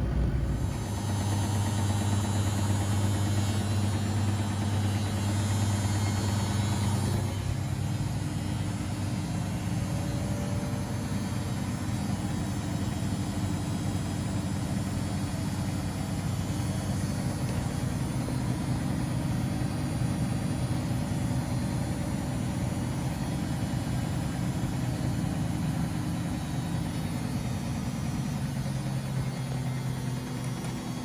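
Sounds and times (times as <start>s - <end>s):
laundry machines humming: 0.0s - 31.0s.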